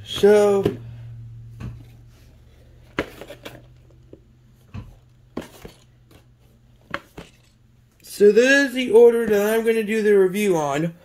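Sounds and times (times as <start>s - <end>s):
faint low hum: 0.0s - 9.3s.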